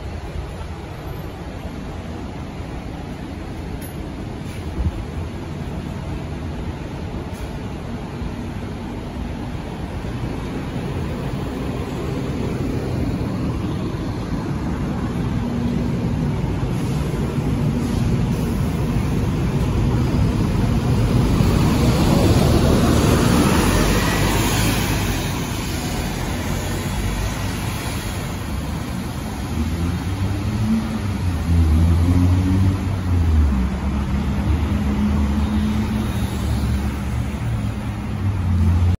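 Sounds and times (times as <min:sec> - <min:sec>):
bus diesel engine accelerating: 0:00.0 - 0:39.0
road traffic passing: 0:00.0 - 0:39.0.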